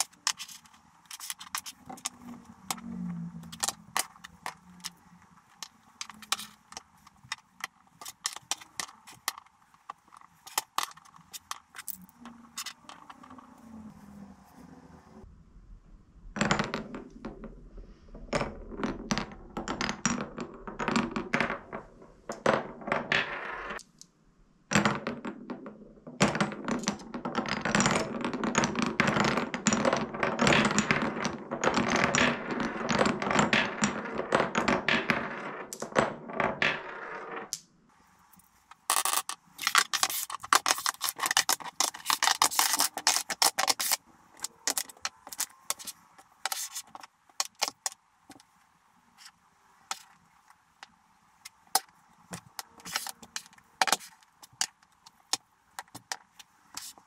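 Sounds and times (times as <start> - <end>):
wooden blocks clattering: 0.0 - 13.8, 16.4 - 17.6, 18.2 - 24.0, 24.7 - 48.5, 49.2 - 57.0
marbles rolling through wooden blocks: 0.0 - 14.3, 16.2 - 24.0, 24.7 - 48.5, 49.2 - 57.0.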